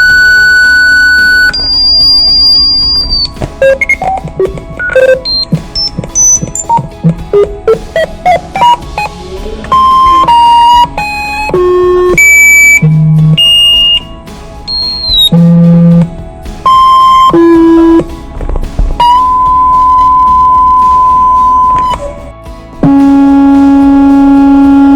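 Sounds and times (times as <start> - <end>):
electronic alarm tones: 0.0 - 16.1, 16.7 - 18.1, 19.0 - 22.2, 22.8 - 24.9.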